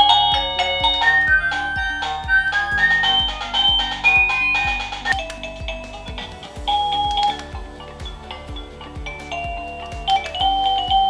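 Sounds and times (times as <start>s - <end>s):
electronic music with thumping beat: 0.0s - 11.0s.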